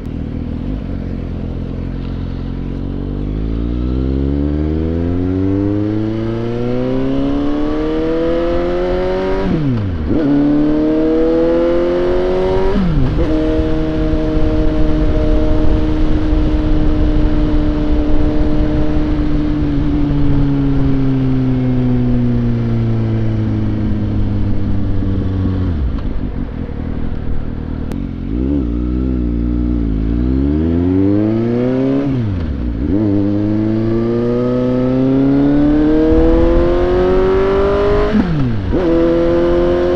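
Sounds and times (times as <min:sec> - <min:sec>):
motorcycle engine accelerating: 0:00.0 - 0:39.9
wind noise: 0:04.0 - 0:28.6, 0:30.0 - 0:39.9.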